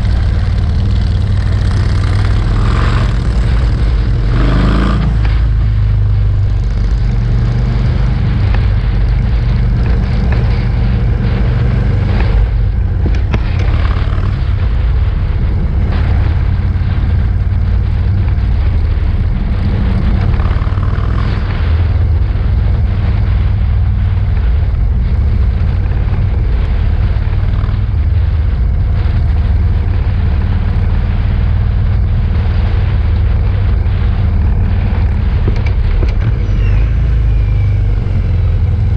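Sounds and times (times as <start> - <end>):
motorcycle engines rumbling: 0.0 - 38.9.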